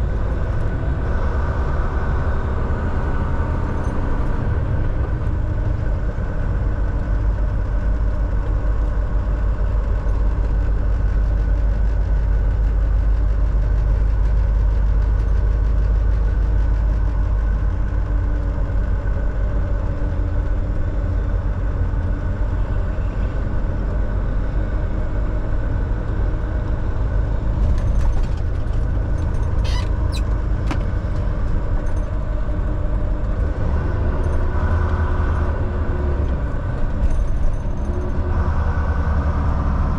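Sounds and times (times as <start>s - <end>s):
road noise: 0.0s - 39.9s
truck diesel engine running: 0.0s - 39.9s.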